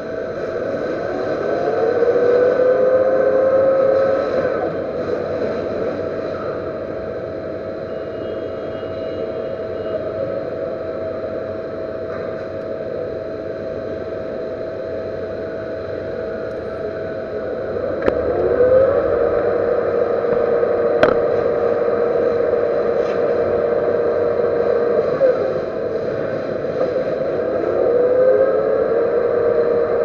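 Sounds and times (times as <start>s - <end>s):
metal lathe running: 0.0s - 30.0s
rising whine: 0.0s - 30.0s.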